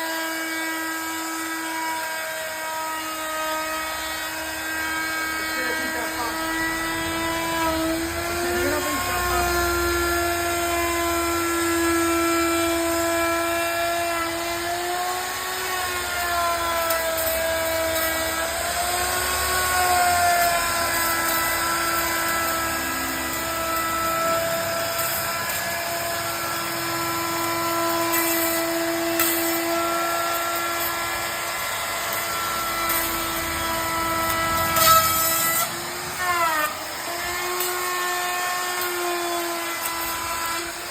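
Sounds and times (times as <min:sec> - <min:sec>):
electric wood router whining: 0:00.0 - 0:40.9.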